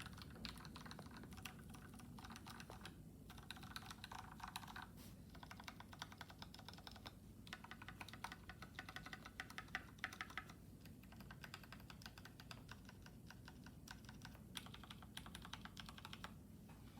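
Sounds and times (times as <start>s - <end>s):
mechanical keyboard typing: 0.0s - 16.4s.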